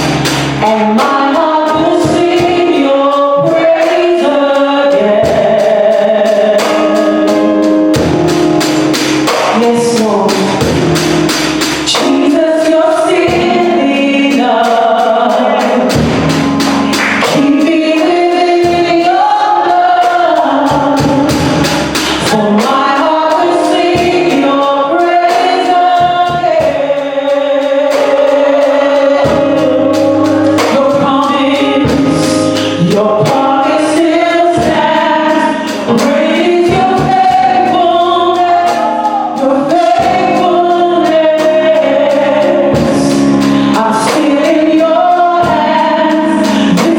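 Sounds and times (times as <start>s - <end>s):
band accompaniment: 0.0s - 46.9s
group singing gospel song: 0.0s - 46.9s
steady percussion beat: 0.0s - 46.9s.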